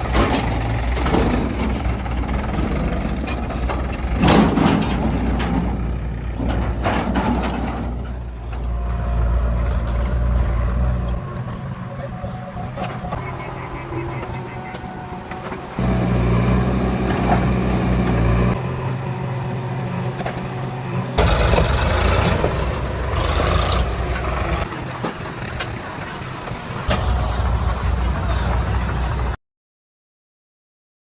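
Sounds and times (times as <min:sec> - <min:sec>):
heavy diesel engine rumbling: 0:00.0 - 0:29.4.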